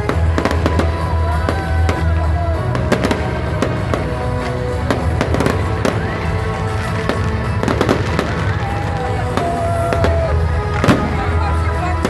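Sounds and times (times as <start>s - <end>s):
fireworks bangs and crackling: 0.0s - 12.0s
music playing: 0.0s - 12.0s.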